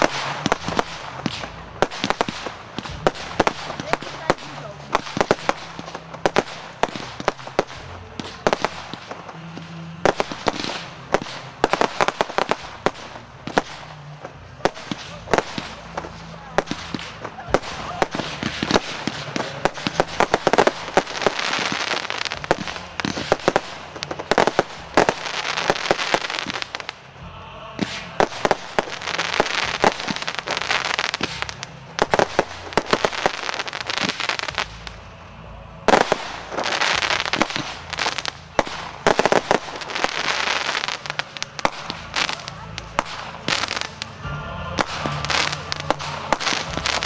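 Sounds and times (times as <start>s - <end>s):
fireworks bangs: 0.0s - 47.0s
fireworks crackling: 0.0s - 47.0s.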